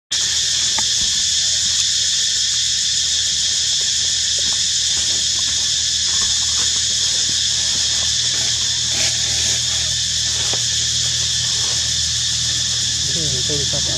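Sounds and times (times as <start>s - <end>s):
insect chorus drone: 0.1s - 13.9s.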